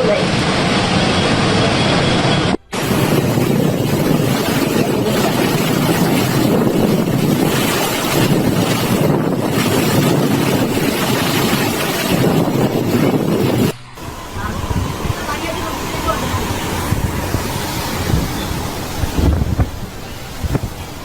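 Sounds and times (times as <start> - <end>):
floodwater rushing: 2.7 - 21.0.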